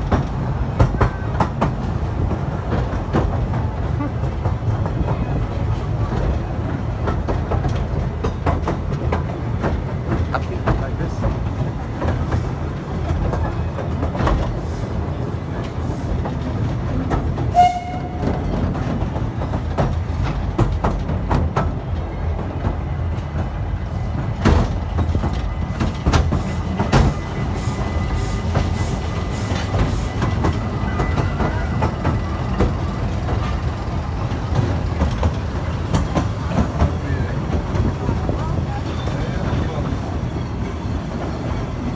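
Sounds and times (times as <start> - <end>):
wheels clicking over rail joints: 0.0 - 23.6, 24.2 - 41.9
train rumbling: 0.0 - 41.9.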